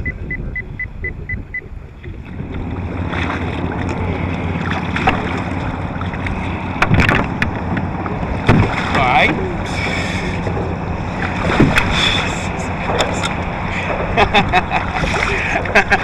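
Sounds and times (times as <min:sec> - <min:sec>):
water splashing against kayak: 0:00.0 - 0:16.0.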